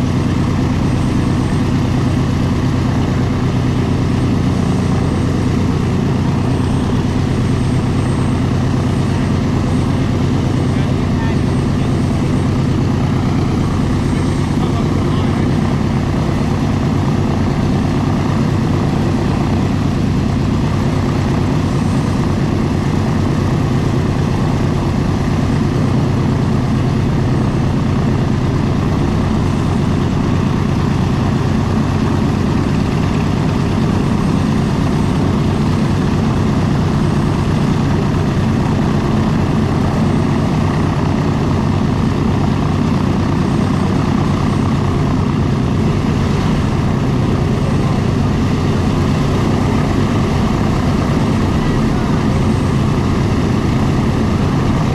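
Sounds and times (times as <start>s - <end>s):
aircraft engines idling: 0.0s - 54.9s.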